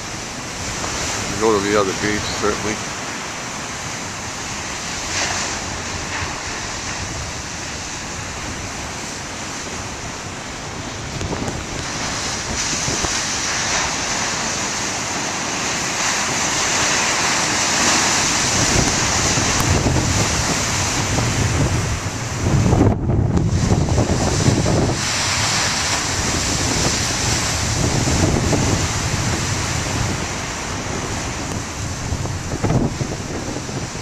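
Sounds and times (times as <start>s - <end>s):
surf breaking over rocks: 0.0s - 34.0s
wind buffeting microphone: 0.0s - 34.0s.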